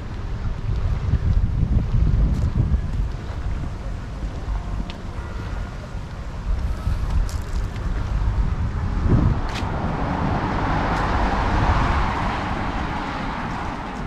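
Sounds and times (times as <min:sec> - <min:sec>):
low steady traffic rumble: 0:00.0 - 0:14.0.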